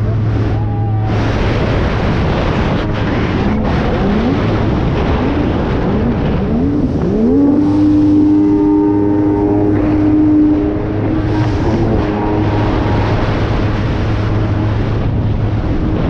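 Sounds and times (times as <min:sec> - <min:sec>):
jet ski engine revving: 0:00.0 - 0:16.0
rushing noise: 0:00.0 - 0:16.0.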